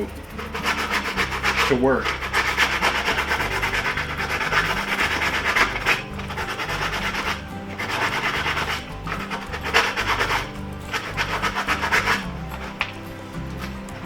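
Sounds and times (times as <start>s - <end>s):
background music: 0.0s - 14.0s
sandpaper rasping on plastic: 0.4s - 12.8s.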